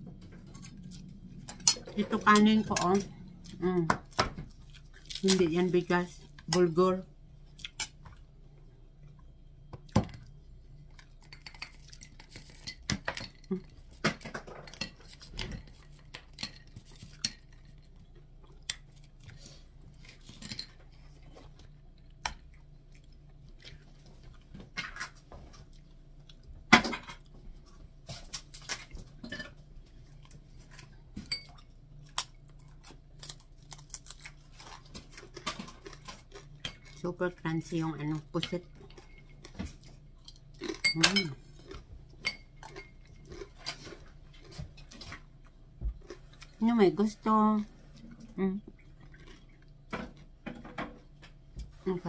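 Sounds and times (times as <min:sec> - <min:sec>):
chewing and crunching: 0:00.1 - 0:51.9.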